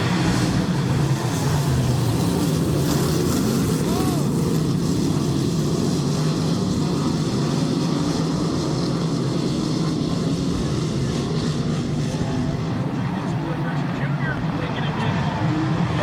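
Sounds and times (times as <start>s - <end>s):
race car engines droning: 0.0s - 16.0s.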